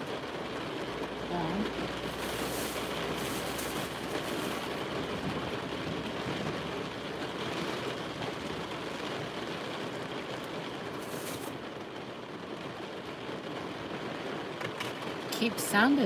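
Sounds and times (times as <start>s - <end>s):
heavy rain on vehicle roof: 0.0s - 16.0s.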